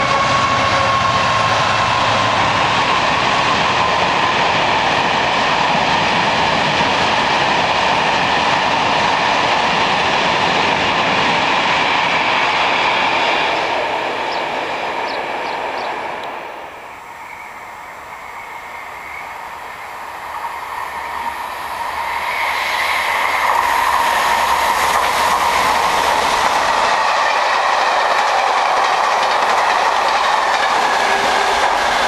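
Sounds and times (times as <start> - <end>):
diesel locomotive engine: 0.0 - 32.0
train wheels rumbling: 0.0 - 32.0.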